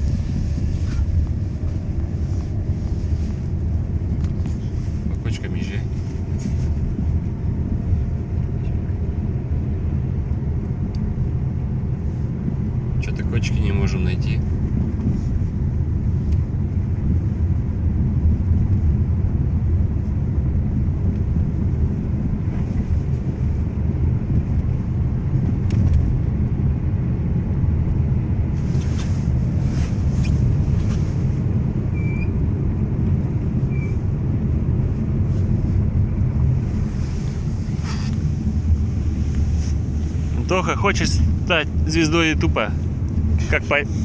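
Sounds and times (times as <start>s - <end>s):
car driving road rumble: 0.0s - 44.0s.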